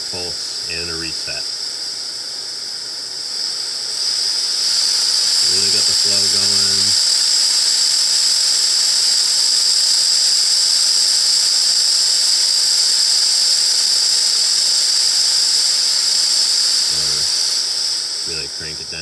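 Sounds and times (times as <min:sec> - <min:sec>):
compressed air hissing: 0:00.0 - 0:19.0.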